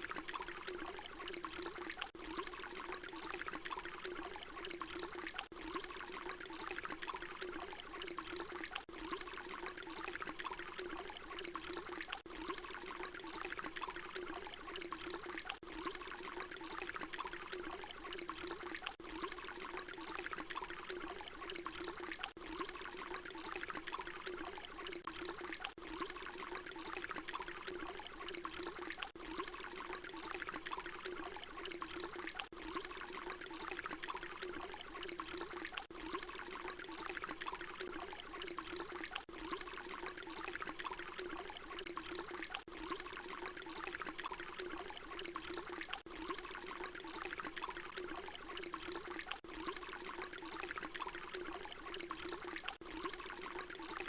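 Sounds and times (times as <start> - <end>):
water pouring: 0.0 - 54.0.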